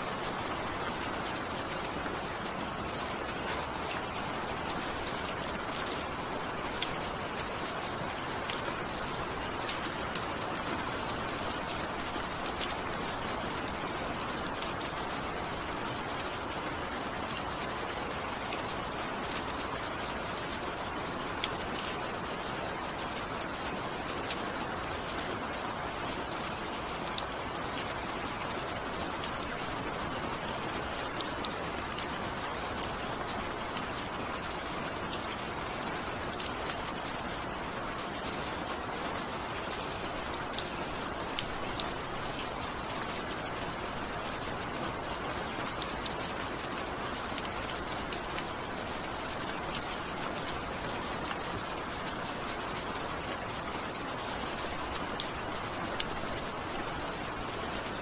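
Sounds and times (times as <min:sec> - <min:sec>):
rain drop ticks: 0:00.0 - 0:58.0
steady rain hiss: 0:00.0 - 0:58.0.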